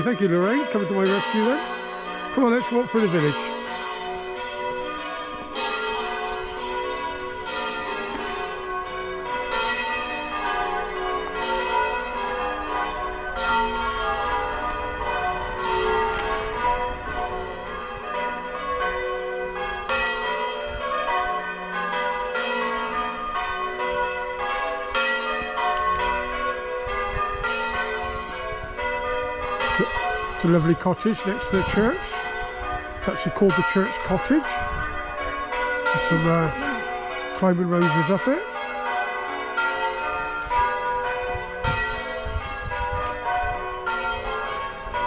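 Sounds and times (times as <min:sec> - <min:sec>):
church bells ringing: 0:00.0 - 0:45.0.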